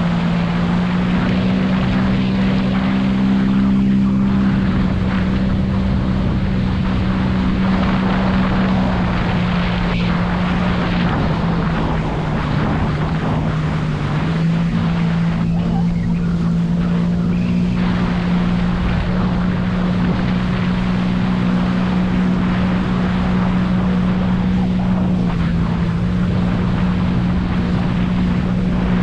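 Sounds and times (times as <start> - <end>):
jet ski engine running: 0.0 - 29.0
rush of wind and water: 0.0 - 29.0.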